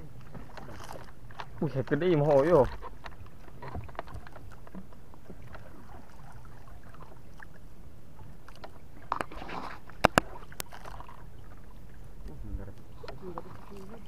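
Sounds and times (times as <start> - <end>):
water noise: 0.0 - 14.0.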